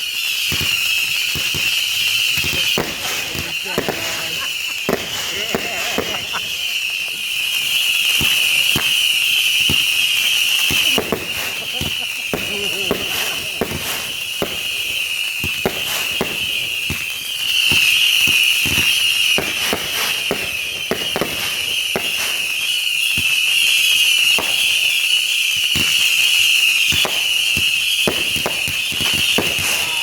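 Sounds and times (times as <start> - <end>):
fireworks bangs and pops: 0.0 - 30.0.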